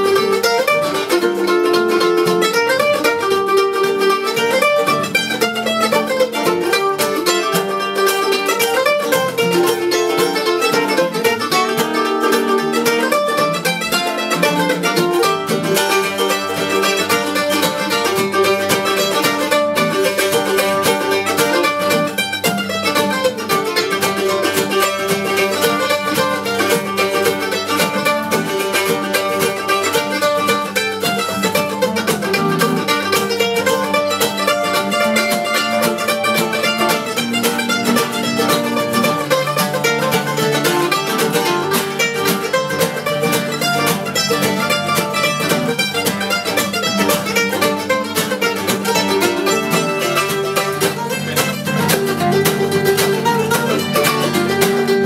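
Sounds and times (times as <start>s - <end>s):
mandolin picking melody: 0.0s - 55.0s
strummed acoustic guitars: 0.0s - 55.0s.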